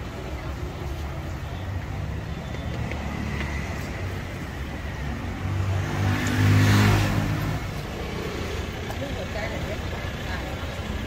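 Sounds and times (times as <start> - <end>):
low traffic rumble: 0.0 - 11.0
vehicle engine passing by: 2.0 - 11.0.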